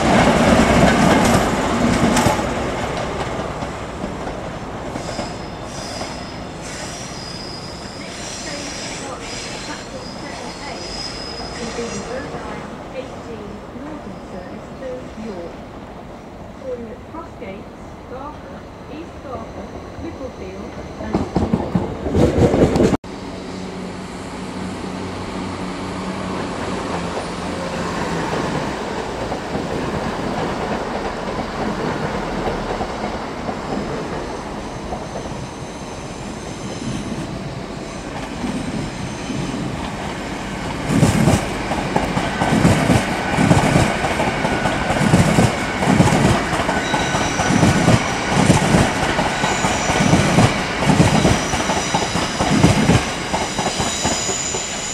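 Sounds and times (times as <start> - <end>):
passing train: 0.0 - 54.9.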